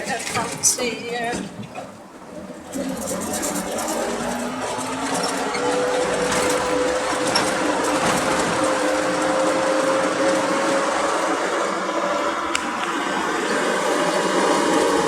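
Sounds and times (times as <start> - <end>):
road and cab noise: 0.0 - 15.0
truck drivetrain whine: 0.0 - 15.0.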